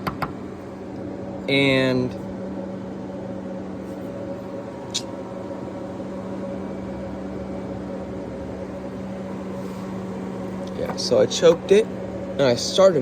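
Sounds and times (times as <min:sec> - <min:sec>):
motor humming steadily: 0:00.0 - 0:13.0.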